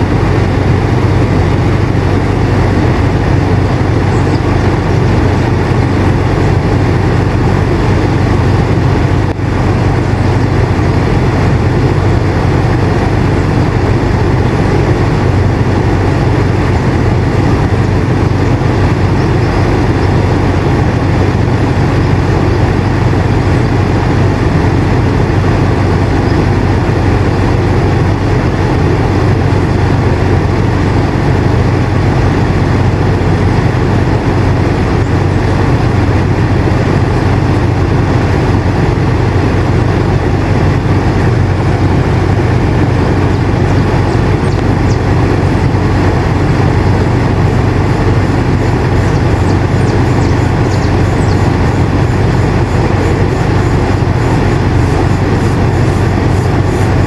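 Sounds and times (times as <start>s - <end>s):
air conditioner running: 0.0s - 57.0s.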